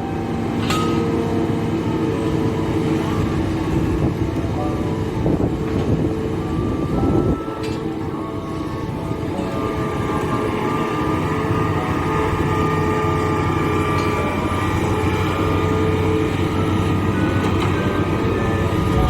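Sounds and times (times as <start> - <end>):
excavator diesel engine rumble: 0.0 - 19.0
hydraulics high whine: 0.0 - 19.0.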